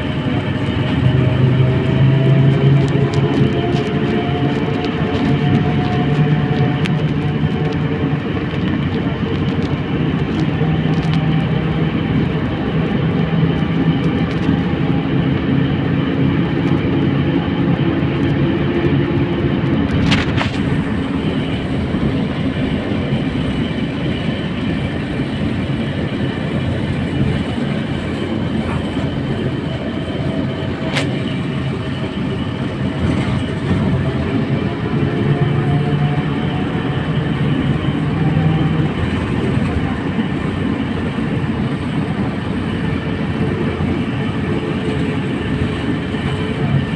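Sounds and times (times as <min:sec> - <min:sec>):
trolleybus rumble: 0:00.0 - 0:46.9.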